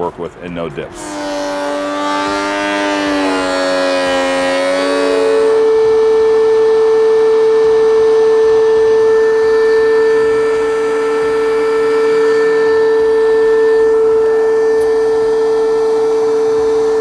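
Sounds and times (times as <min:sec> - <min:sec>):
thickness planer whining: 0:00.0 - 0:17.0.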